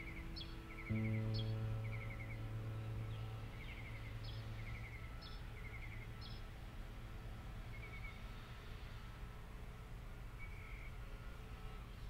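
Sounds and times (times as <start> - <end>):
small birds chirping: 0.0 - 6.8, 7.6 - 9.1, 10.3 - 11.8
low hum: 0.0 - 12.0.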